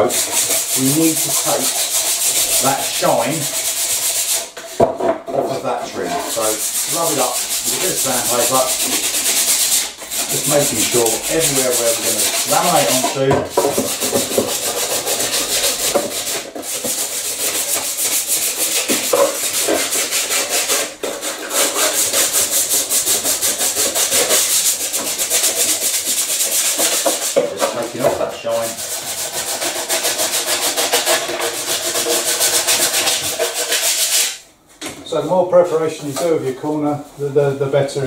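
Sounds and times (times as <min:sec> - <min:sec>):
hand sanding with sandpaper: 0:00.0 - 0:34.4, 0:35.2 - 0:37.9.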